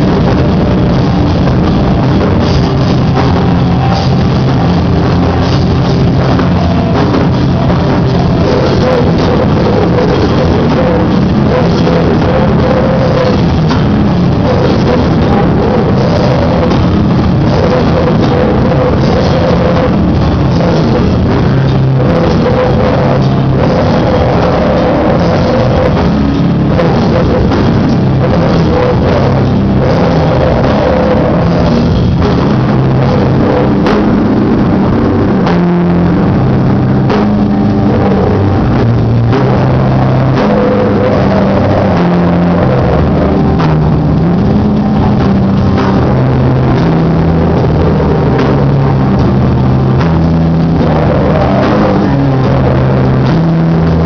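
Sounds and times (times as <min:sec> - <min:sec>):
drum kit: 0:00.0 - 0:54.0
electric guitar low riff: 0:00.0 - 0:54.0
person singing into microphone: 0:00.0 - 0:54.0.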